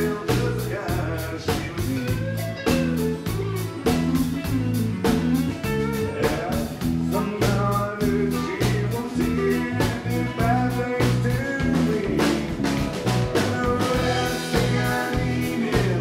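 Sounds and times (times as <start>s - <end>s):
acoustic and electric guitars: 0.0s - 16.0s
steady drum beat: 0.0s - 16.0s.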